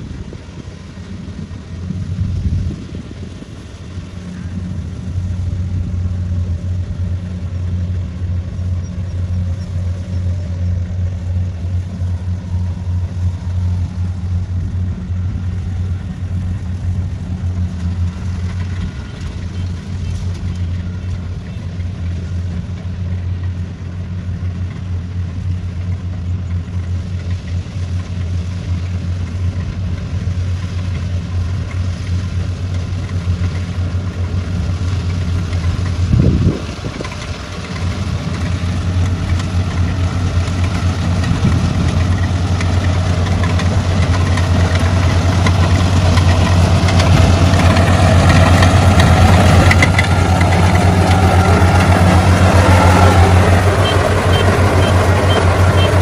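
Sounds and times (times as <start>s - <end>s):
harvester diesel engine droning: 0.0s - 56.0s.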